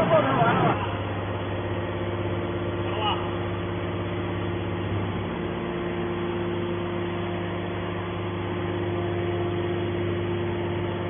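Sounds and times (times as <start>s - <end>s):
scrap metal baler humming: 0.0s - 11.0s.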